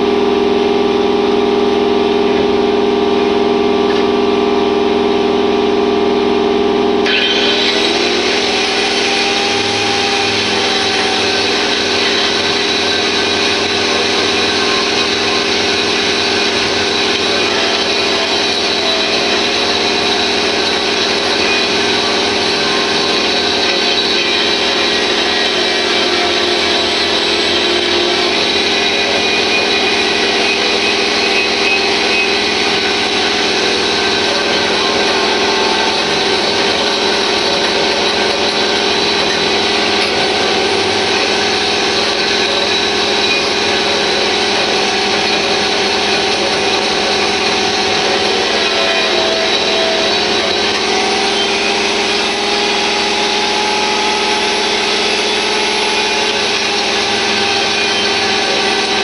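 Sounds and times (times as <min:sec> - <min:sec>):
power tool humming: 0:00.0 - 0:59.0.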